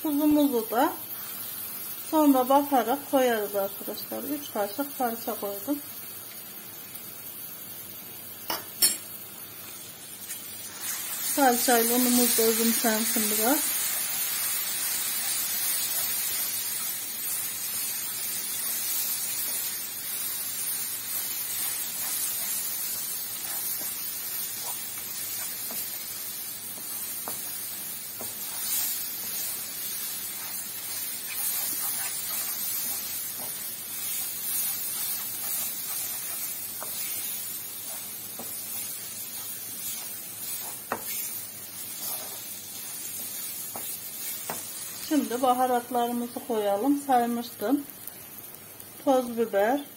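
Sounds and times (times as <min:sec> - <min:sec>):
paste frying in a pan: 0:00.0 - 0:49.9.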